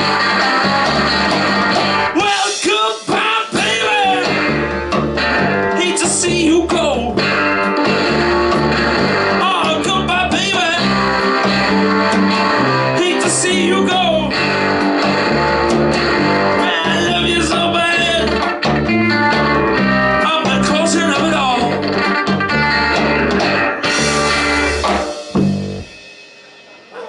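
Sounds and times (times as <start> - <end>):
bass line: 0.0 - 26.0
electric guitar lead: 0.0 - 26.8
drums: 0.0 - 27.0.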